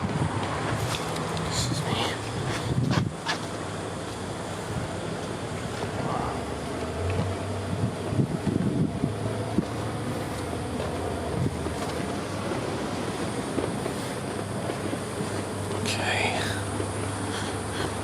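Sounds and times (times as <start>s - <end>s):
tram machinery hum: 0.0s - 18.0s.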